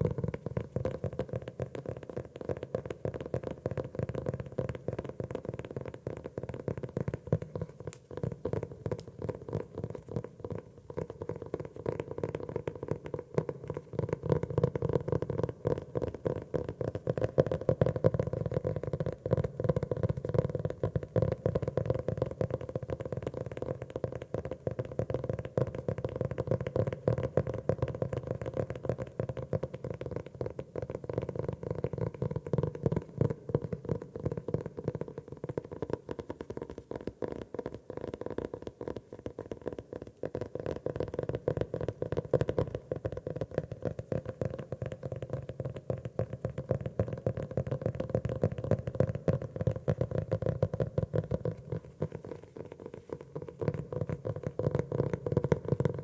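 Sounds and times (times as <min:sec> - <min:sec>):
fingers tapping on notebook cover: 0:00.2 - 0:56.0.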